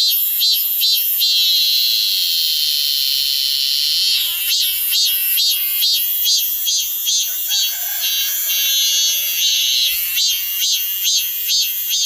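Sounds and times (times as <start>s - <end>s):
cicada buzzing: 0.0s - 12.0s.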